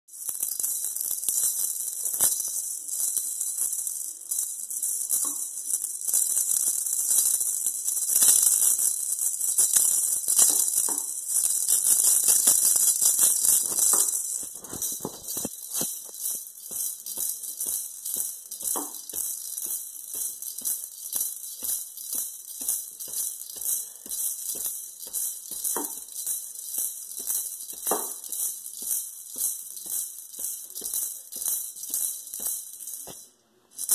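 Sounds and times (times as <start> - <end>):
maracas rattling: 0.1 - 33.9.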